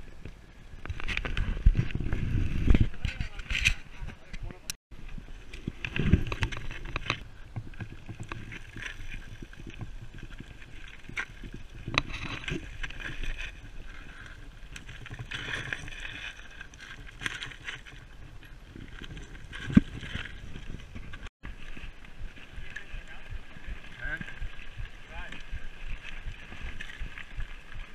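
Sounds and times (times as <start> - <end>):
bike tyres crunching gravel: 5.0 - 27.9.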